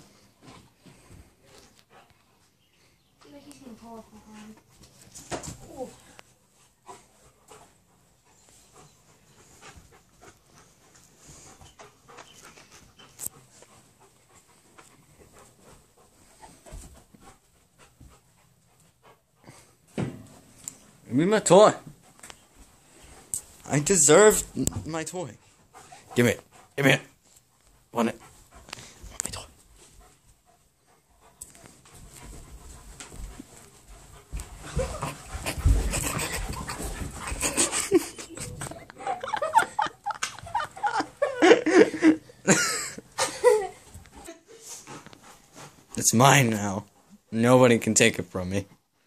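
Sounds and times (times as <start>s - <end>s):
dog panting: 0.0s - 3.0s, 3.6s - 47.8s.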